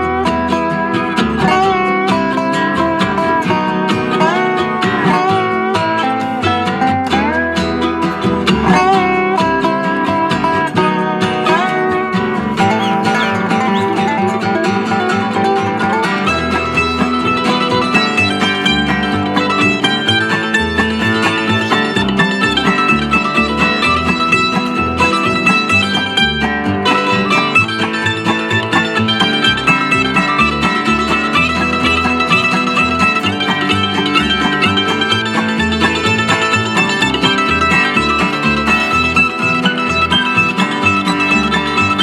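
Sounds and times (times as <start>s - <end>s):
band playing plucked strings: 0.0s - 42.0s.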